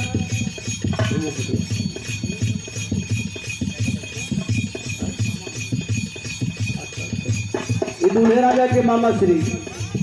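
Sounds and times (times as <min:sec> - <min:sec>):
hand drum beating: 0:00.0 - 0:10.0
high jingling: 0:00.0 - 0:10.0.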